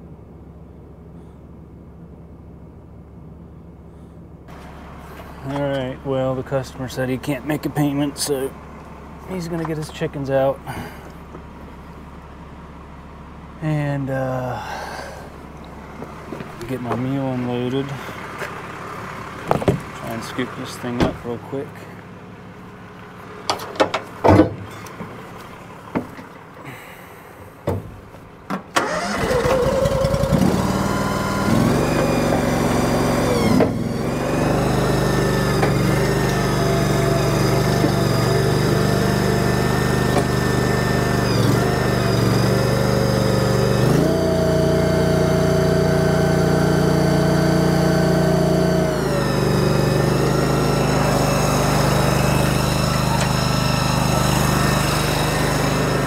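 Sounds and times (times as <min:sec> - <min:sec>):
small engine running: 0:04.0 - 0:23.4, 0:28.8 - 0:56.0.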